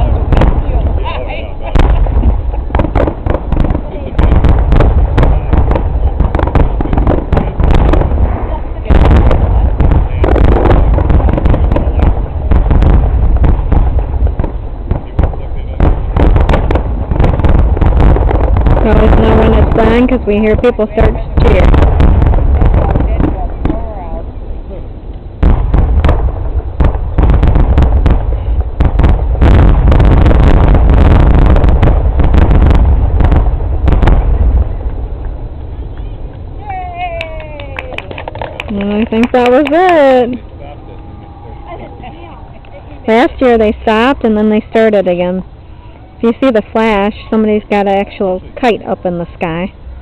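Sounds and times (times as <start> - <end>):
fireworks bursting: 0.0 - 50.0
low rumble: 0.0 - 50.0.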